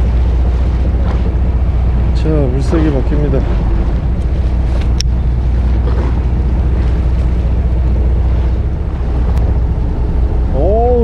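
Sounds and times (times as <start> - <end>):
water slapping against a boat hull: 0.0 - 10.6
wind buffeting the microphone: 0.0 - 11.0.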